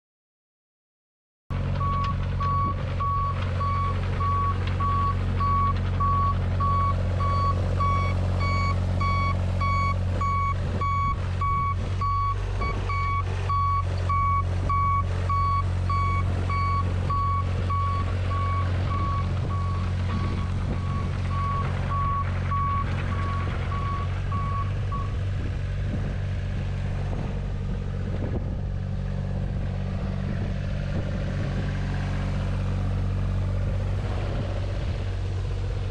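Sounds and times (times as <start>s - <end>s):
diesel engine running: 1.5s - 35.9s.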